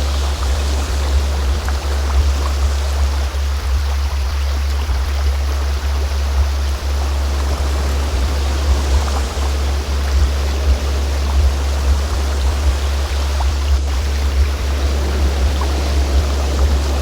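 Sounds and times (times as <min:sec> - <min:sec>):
low drone tone: 0:00.0 - 0:17.0.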